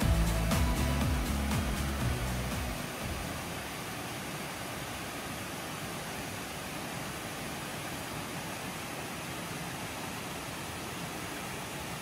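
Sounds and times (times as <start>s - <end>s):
waterfall and stream rushing: 0.0s - 12.0s.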